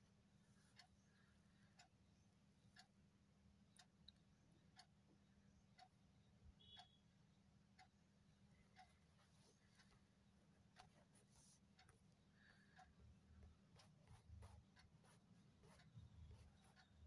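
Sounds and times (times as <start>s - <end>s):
faint ticks: 0.6s - 3.0s, 3.6s - 7.1s, 7.7s - 17.0s.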